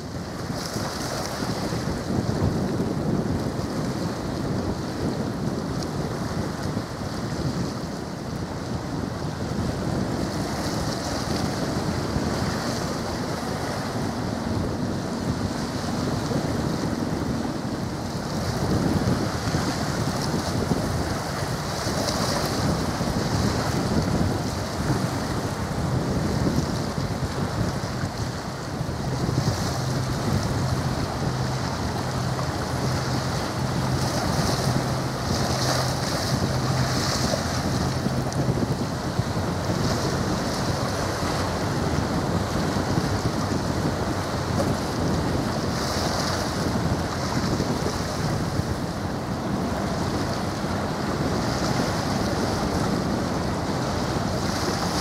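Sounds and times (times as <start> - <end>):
sea waves: 0.0 - 55.0
wind buffeting microphone: 0.0 - 55.0.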